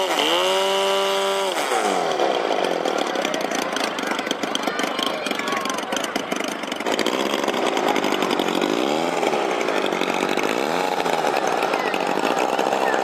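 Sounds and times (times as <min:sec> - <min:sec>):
model airplane engine buzzing: 0:00.0 - 0:13.0.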